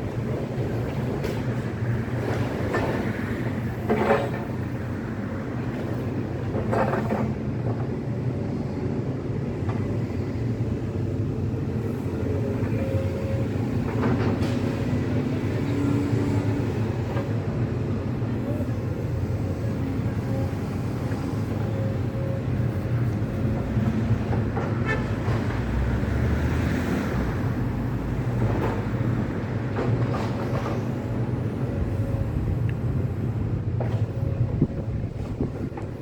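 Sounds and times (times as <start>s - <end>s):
excavator running: 0.0s - 36.0s.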